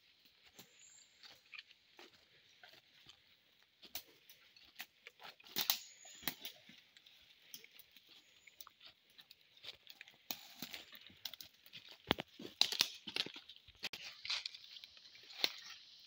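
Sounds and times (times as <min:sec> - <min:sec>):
footsteps crunching through dry leaves: 0:00.1 - 0:16.0.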